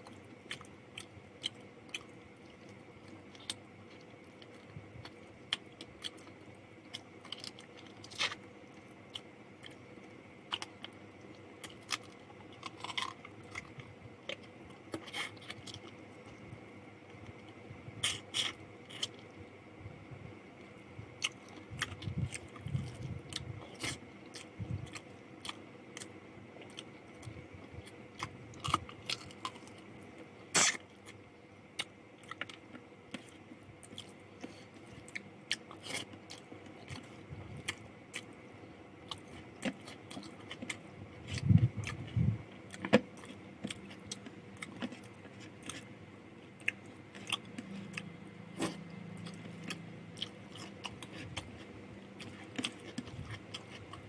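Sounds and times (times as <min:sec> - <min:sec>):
person chewing food: 0:00.0 - 0:19.4, 0:20.7 - 0:38.4, 0:39.0 - 0:54.0.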